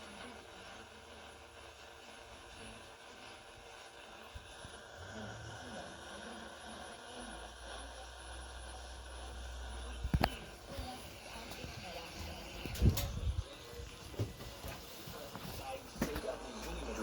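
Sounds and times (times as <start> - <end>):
radio speaker hiss: 0.0 - 17.0.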